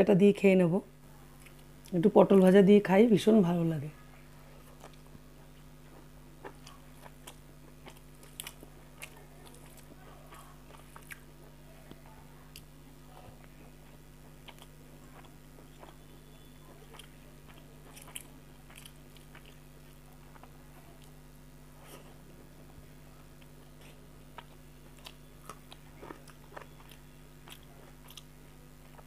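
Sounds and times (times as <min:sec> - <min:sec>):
steady low hum: 0:00.0 - 0:29.0
person chewing food: 0:01.4 - 0:02.0, 0:04.6 - 0:29.0.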